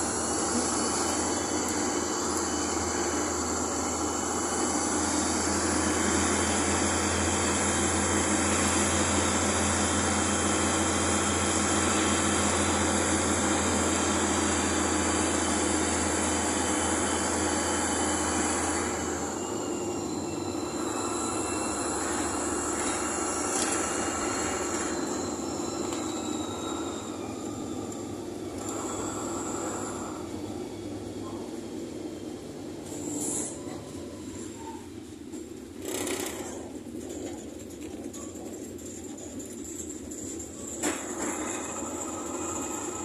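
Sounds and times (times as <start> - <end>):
high-pitched whine: 0.0 - 34.9
bus engine and road drone: 0.0 - 43.0.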